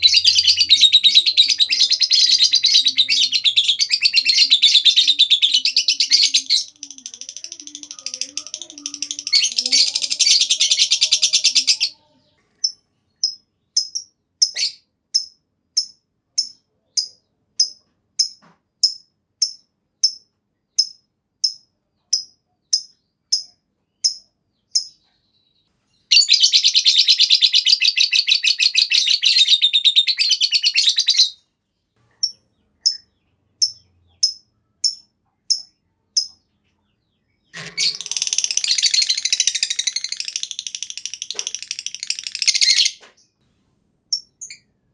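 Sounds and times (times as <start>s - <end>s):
lovebird chirping and trilling: 0.0s - 31.4s, 32.2s - 43.4s, 44.1s - 44.8s.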